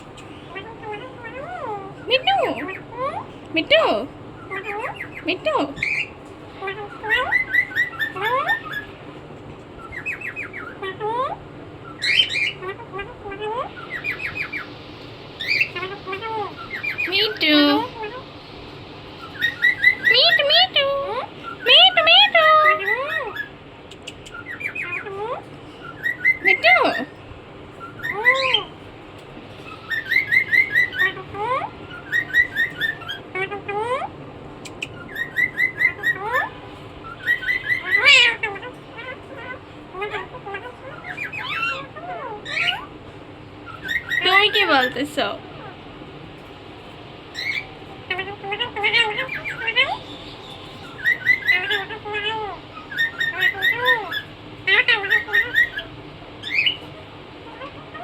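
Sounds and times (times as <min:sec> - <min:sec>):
myna calling: 0:00.0 - 0:27.2, 0:27.8 - 0:28.9, 0:29.7 - 0:46.2, 0:47.3 - 0:58.0.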